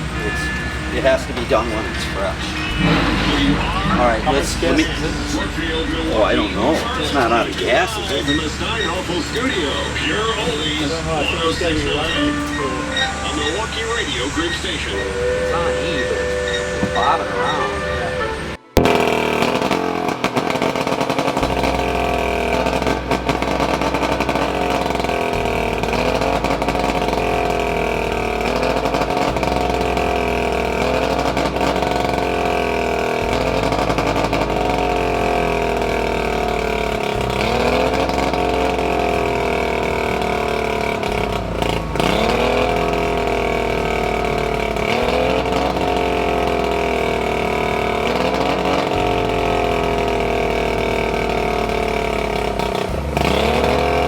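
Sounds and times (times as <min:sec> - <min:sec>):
outboard motor surging: 0:00.0 - 0:54.0.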